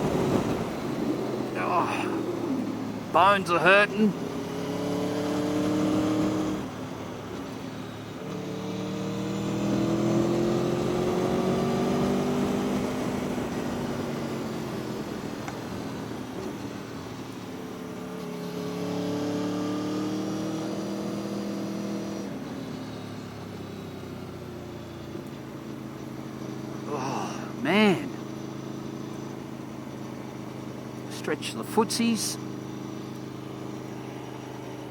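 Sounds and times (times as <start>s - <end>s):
motorcycle engine revving: 0.0s - 31.7s, 32.4s - 34.9s.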